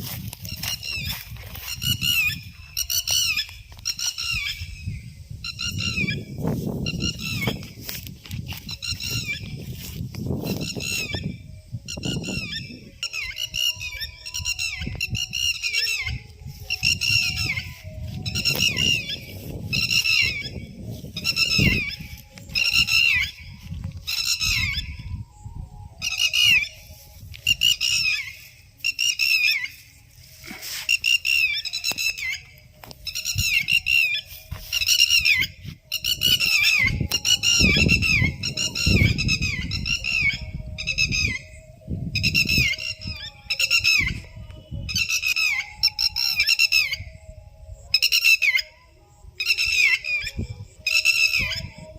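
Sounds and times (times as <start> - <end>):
birds chirping: 0.0 - 47.2.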